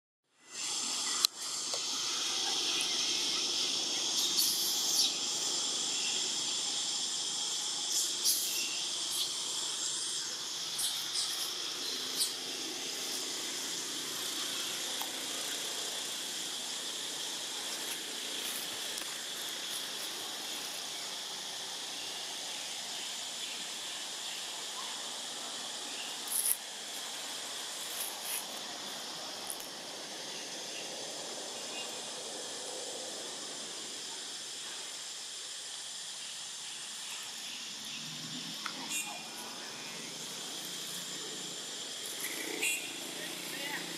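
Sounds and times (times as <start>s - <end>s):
high-pitched insect chorus: 0.3s - 43.9s.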